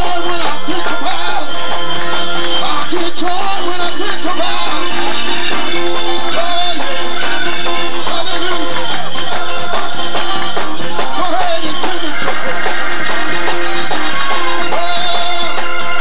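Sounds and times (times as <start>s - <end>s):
drum and percussion hits: 0.0s - 16.0s
electric guitar: 0.0s - 16.0s
live gospel band music: 0.0s - 16.0s.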